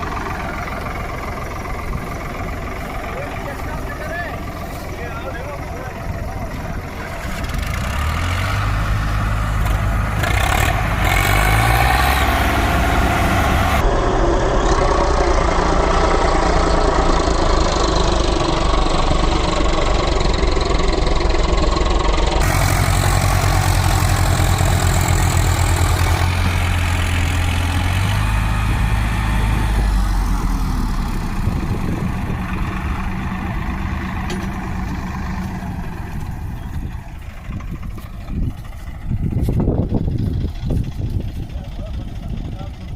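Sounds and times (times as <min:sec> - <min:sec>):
heavy vehicle engine under load: 0:00.0 - 0:42.9.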